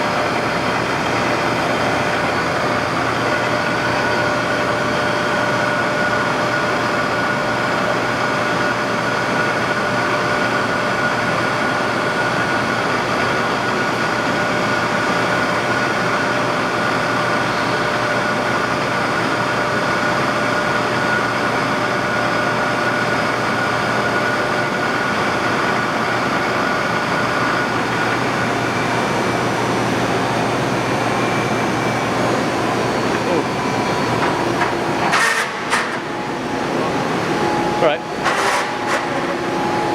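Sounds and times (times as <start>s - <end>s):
milling machine hum and whine: 0.0s - 39.9s.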